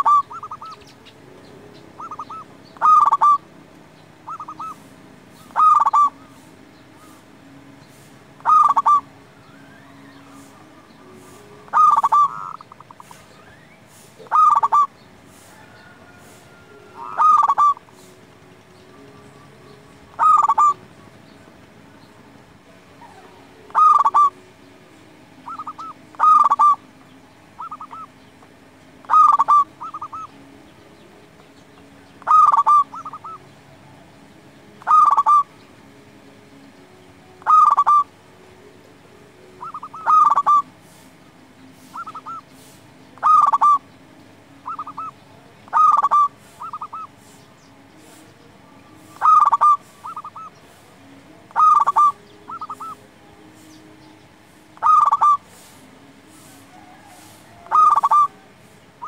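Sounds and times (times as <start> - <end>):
dove cooing song: 0.0 - 59.0.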